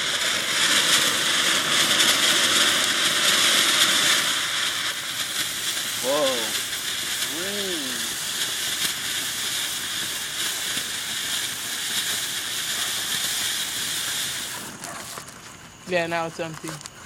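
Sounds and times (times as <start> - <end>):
firework spraying sparks with hiss: 0.0 - 17.0.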